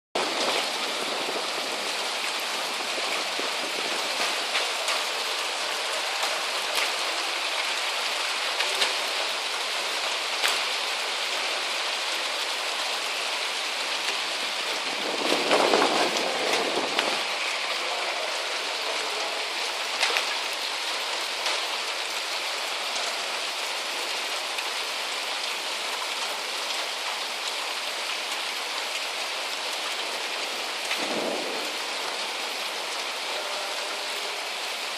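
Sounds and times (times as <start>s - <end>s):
heavy rain hissing: 0.2s - 34.9s
raindrops ticking on surfaces: 0.2s - 34.9s
rush of rain: 0.2s - 34.9s.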